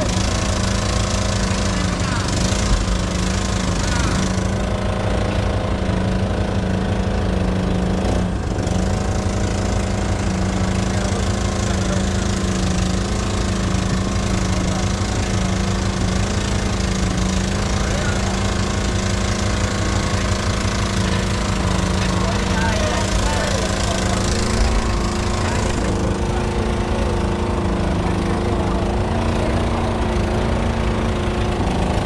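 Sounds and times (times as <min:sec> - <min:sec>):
boat engine chugging: 0:00.0 - 0:32.0.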